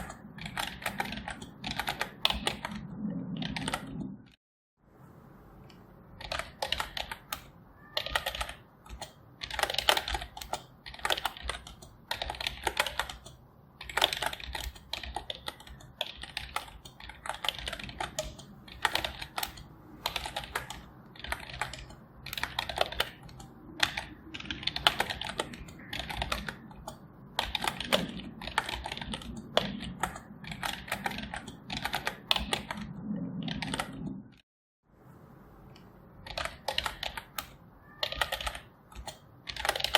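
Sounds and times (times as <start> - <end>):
typing on computer keyboard: 0.0 - 4.2, 6.2 - 34.2, 36.2 - 39.9.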